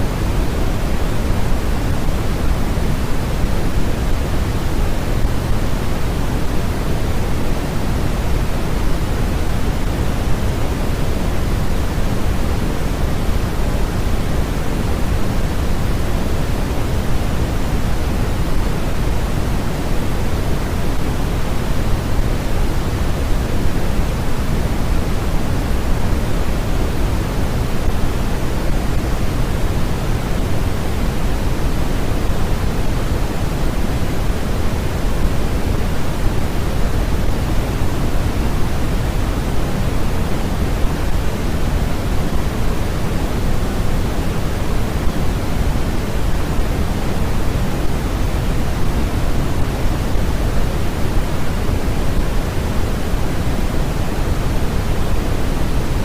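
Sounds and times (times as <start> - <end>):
steady low hiss noise: 0.0 - 56.0.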